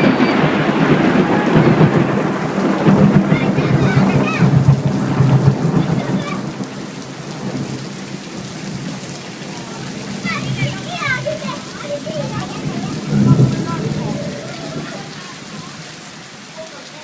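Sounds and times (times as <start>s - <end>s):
thunder rolling: 0.0s - 16.2s
steady rain: 0.0s - 17.0s.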